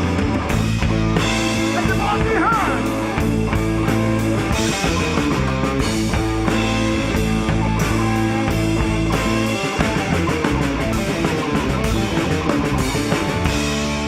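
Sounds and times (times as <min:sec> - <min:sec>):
electric guitar: 0:00.0 - 0:14.0
rock band playing: 0:00.0 - 0:14.0.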